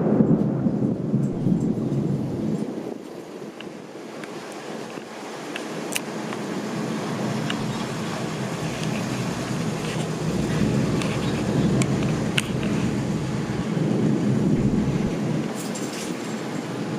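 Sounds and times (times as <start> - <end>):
rolling thunder: 0.0 - 4.9, 7.1 - 16.9.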